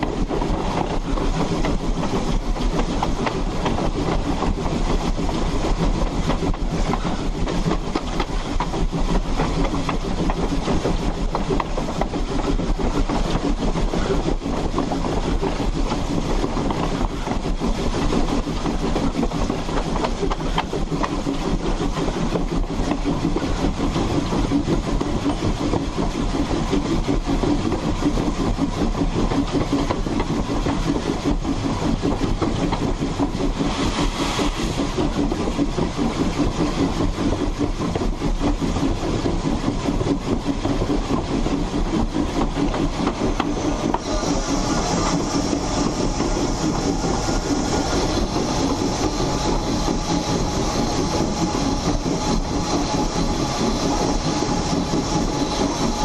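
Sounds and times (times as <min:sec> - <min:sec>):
steam locomotive wheels clattering: 0:00.0 - 0:56.0.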